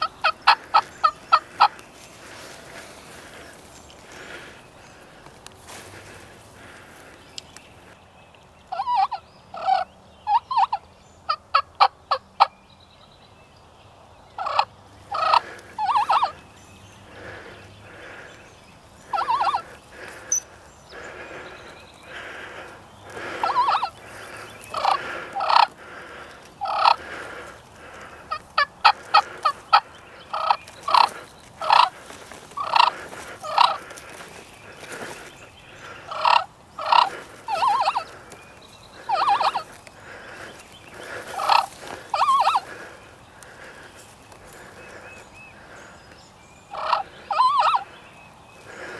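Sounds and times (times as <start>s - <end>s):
turkey clucks: 0.0s - 7.1s, 8.7s - 12.5s, 14.4s - 16.4s, 19.0s - 21.5s, 22.1s - 45.8s, 46.7s - 48.0s
turkeys gobbling: 0.0s - 7.1s, 8.7s - 12.5s, 14.4s - 16.4s, 19.0s - 21.5s, 22.1s - 38.4s, 39.0s - 45.8s, 46.7s - 48.0s
turkey calls: 0.0s - 7.2s, 8.7s - 12.5s, 14.4s - 45.9s, 46.7s - 48.9s.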